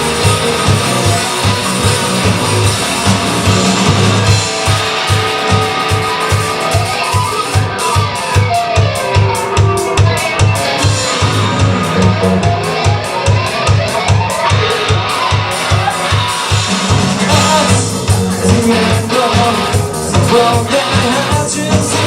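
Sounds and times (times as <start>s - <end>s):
bass guitar: 0.0s - 22.0s
drum kit beat: 0.0s - 22.0s
electric guitars: 0.0s - 22.0s.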